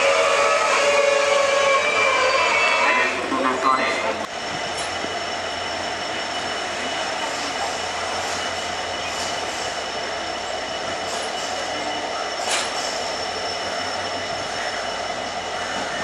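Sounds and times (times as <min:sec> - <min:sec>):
train coach rumble and rattle: 0:00.0 - 0:16.0.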